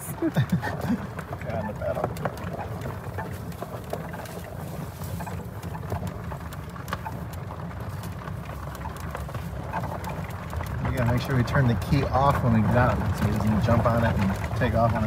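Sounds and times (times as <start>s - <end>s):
golf cart rolling over gravel: 0.0s - 15.0s.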